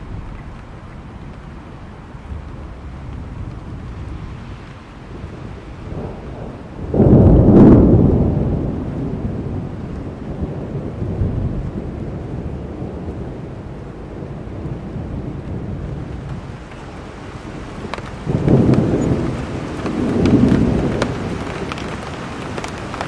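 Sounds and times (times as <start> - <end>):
steady rain: 0.0 - 23.0
thunderclap rumbling: 0.0 - 23.0.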